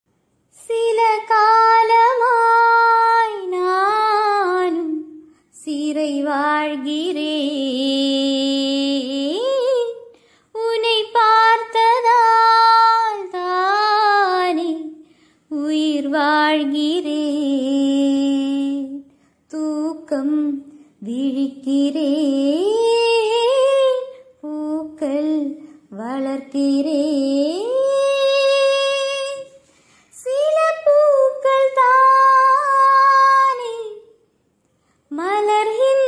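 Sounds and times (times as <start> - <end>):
woman singing unaccompanied: 0.5 - 34.2, 35.1 - 36.0.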